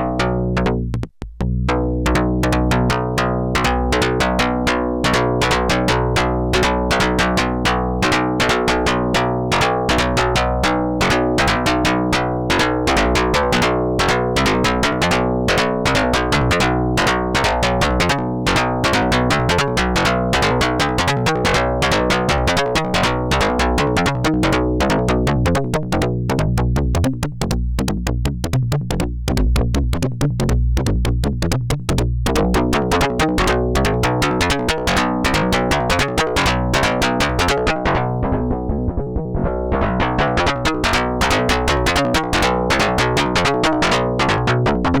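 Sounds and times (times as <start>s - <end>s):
pitched low synth tones: 0.0s - 45.0s.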